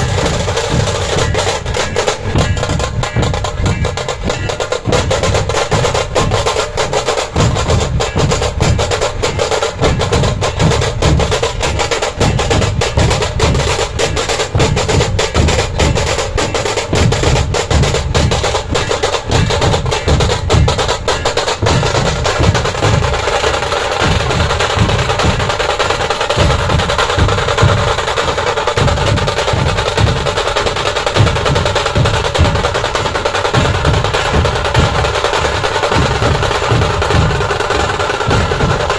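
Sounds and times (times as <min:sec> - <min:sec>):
heavy barrel drum beats: 0:00.0 - 0:38.9
rapid sharp drum strokes: 0:00.0 - 0:38.9.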